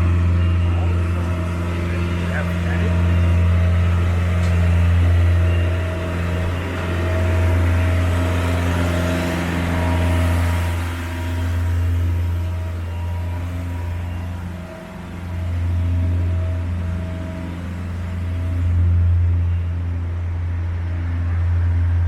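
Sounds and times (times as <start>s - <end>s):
faint steady tones: 0.0s - 22.0s.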